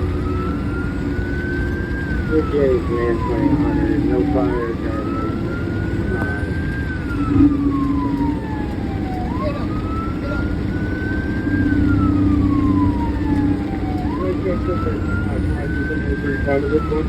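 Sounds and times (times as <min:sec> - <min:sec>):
fire engine siren wailing: 0:00.0 - 0:17.0
truck engine rumbling: 0:00.0 - 0:17.0.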